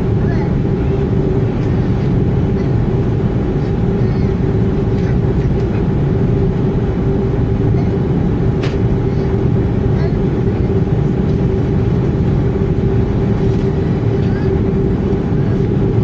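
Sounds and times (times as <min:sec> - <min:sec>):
jet engines idling hum: 0:00.0 - 0:16.0
low cabin rumble: 0:00.0 - 0:16.0.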